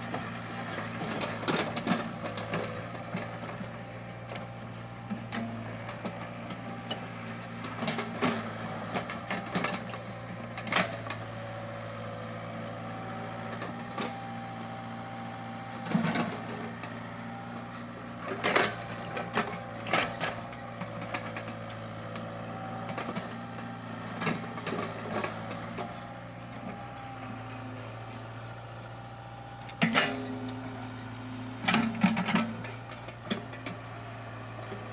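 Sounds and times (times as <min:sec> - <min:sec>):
excavator running with hydraulic whine: 0:00.0 - 0:34.9.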